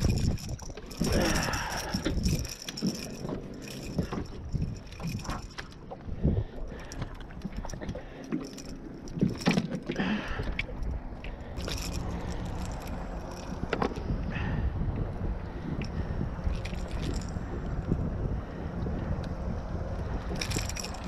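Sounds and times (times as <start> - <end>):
low wind rumble: 0.0 - 21.0.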